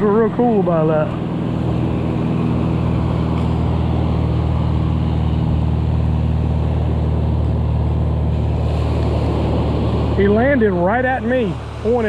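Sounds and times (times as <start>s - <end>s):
propeller airplane engine: 0.0s - 12.0s.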